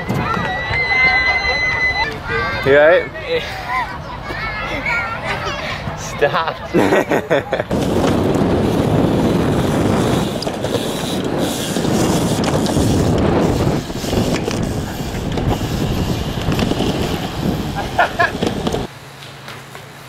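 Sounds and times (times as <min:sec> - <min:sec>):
bike tyres rolling on concrete: 0:00.0 - 0:03.0, 0:06.9 - 0:20.0.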